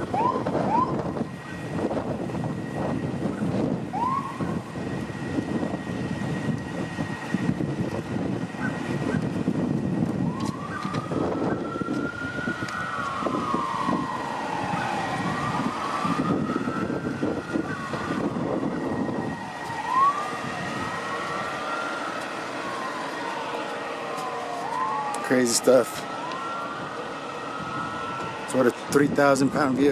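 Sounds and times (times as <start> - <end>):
emergency vehicle siren wailing: 0.0 - 29.9.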